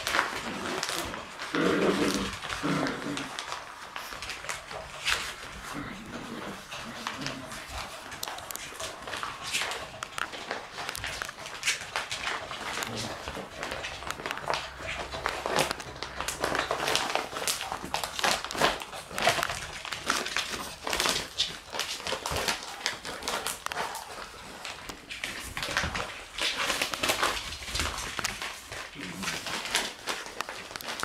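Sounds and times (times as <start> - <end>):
puppies scuffling: 0.0 - 31.0.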